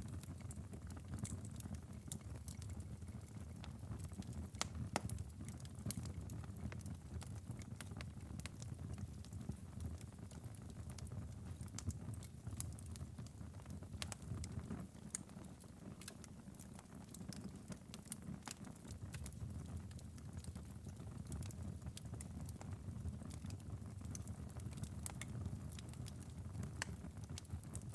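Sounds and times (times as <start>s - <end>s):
fire pops and snaps: 0.0s - 27.9s
low rumble of flames: 0.0s - 27.9s.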